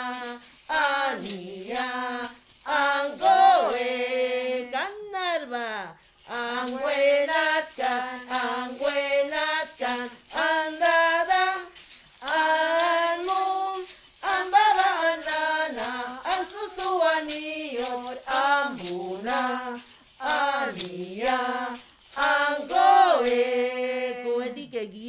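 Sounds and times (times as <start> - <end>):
hand rattle shaking: 0.0 - 4.2, 6.0 - 23.8
woman singing: 0.0 - 25.0.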